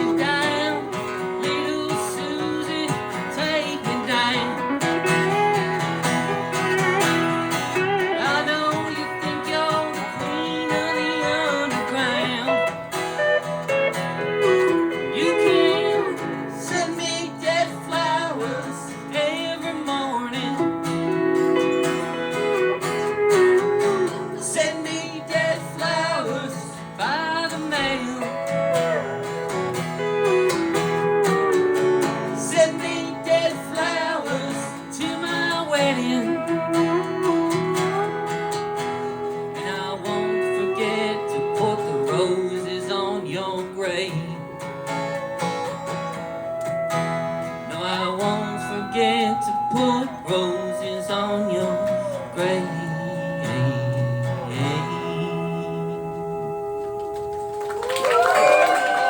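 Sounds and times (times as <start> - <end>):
country-rock guitar instrumental: 0.0 - 59.0.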